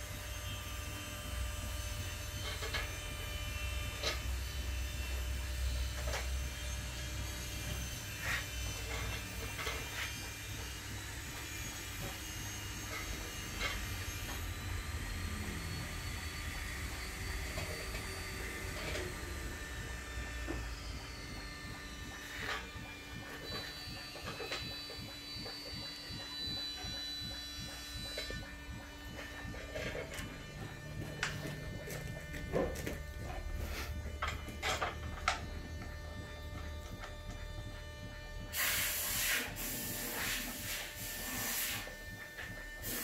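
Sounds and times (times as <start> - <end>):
low steady hum and buzz: 0.0 - 43.0.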